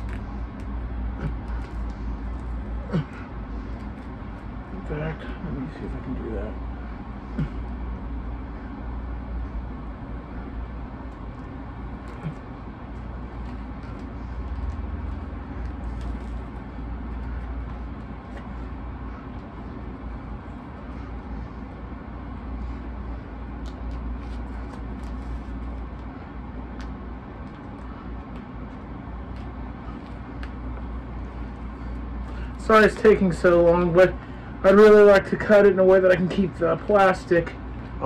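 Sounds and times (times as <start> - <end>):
low background rumble: 0.0 - 38.0.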